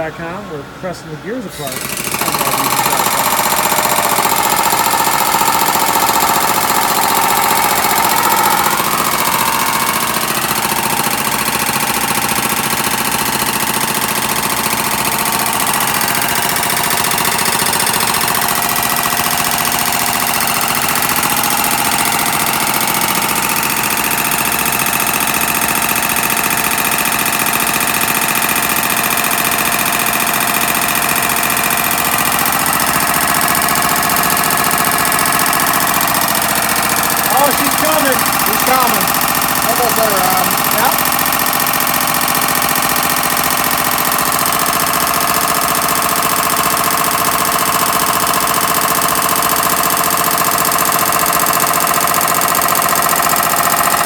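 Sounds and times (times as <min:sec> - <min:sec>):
press pump rattling: 0:01.5 - 0:54.0.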